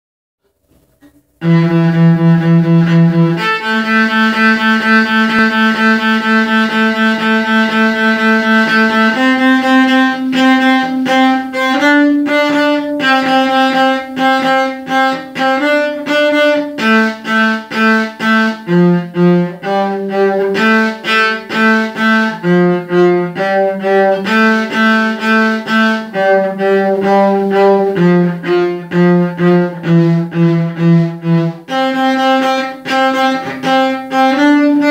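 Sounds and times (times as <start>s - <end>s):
bowed cello: 1.3s - 34.9s.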